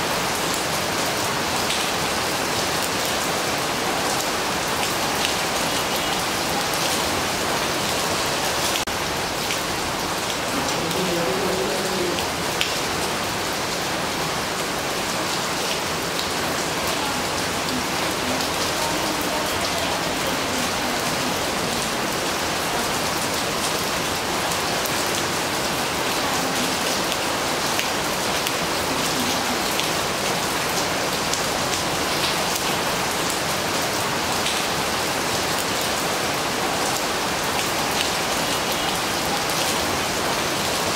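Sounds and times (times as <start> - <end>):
rain pattering on leaves: 0.0 - 40.9.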